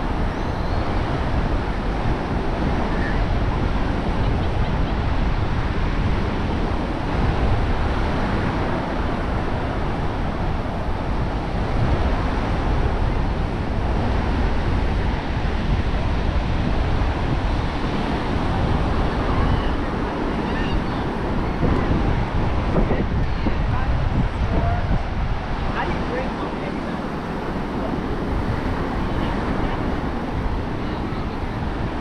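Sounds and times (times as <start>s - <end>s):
ocean surf washing: 0.0s - 32.0s
wind rumbling on microphone: 0.0s - 32.0s.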